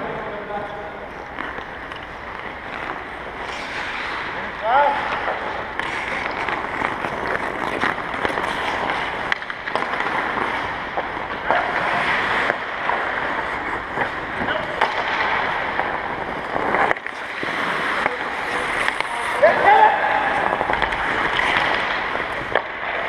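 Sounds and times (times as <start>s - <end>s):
hockey sticks and pucks clacking: 0.0s - 23.0s
skate blades scraping ice: 0.1s - 23.0s.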